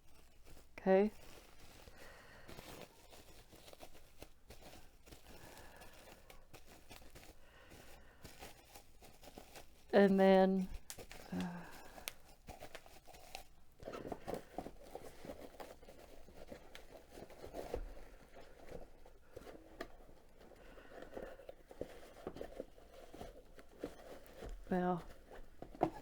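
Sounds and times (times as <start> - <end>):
cardboard packaging rustling: 0.0 - 26.0.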